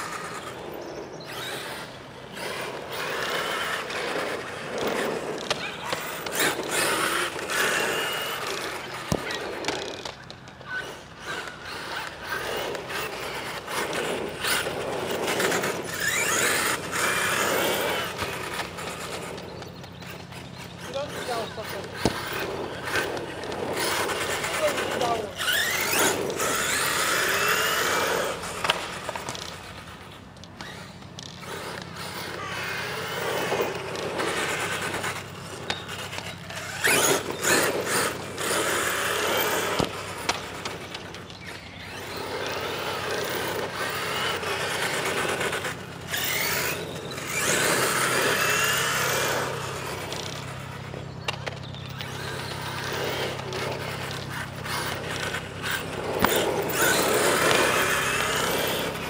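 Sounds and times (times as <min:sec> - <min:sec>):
electric motor whine: 0:00.0 - 0:59.0
tyres on ground: 0:00.0 - 0:59.0.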